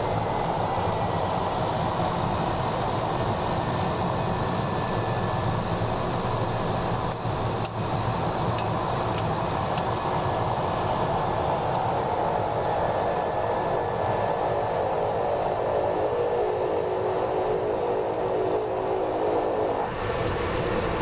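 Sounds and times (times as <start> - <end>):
turboprop engine and propeller: 0.0 - 21.0.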